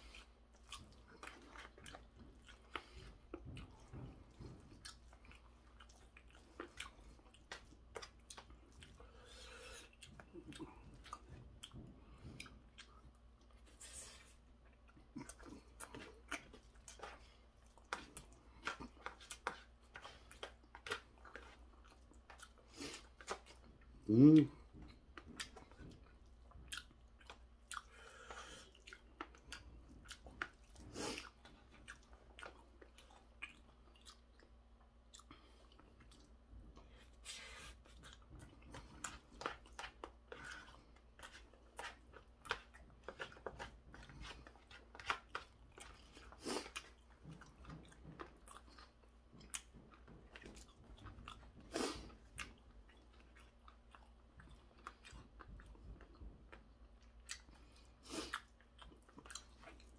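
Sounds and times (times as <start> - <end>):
chewing with sharp crunches: 0.0 - 59.9.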